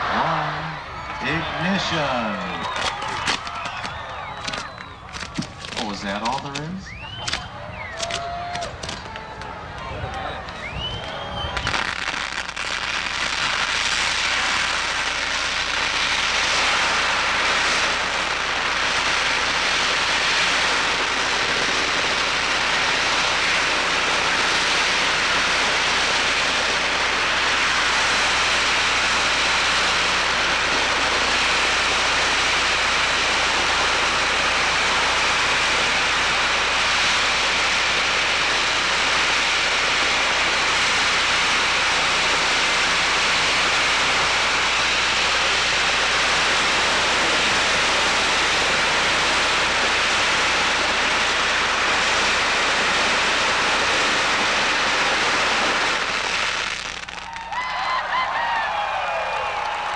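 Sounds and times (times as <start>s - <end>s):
loud hissing rush: 0.0s - 4.4s, 11.8s - 57.1s.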